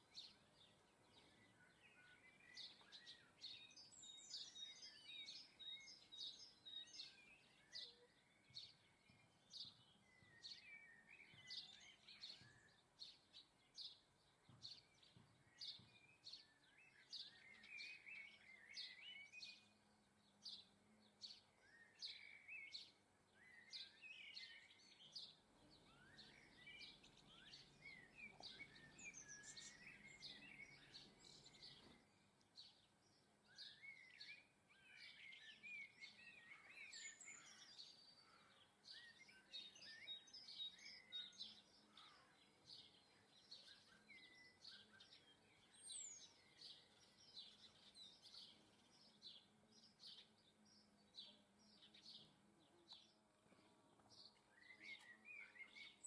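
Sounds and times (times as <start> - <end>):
birds warbling and twittering: 0.0 - 56.0.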